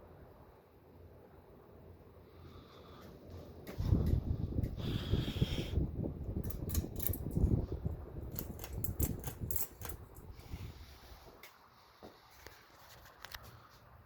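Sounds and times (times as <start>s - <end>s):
ceiling fan rumbling: 0.0s - 14.0s.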